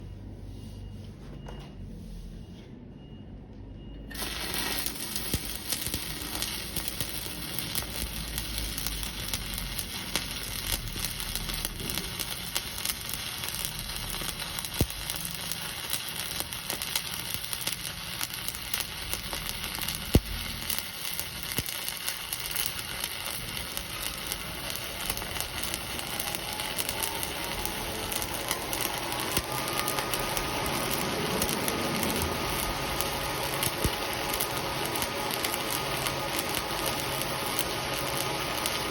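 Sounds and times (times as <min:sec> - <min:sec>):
electric welding arc crackling: 0:04.1 - 0:38.9.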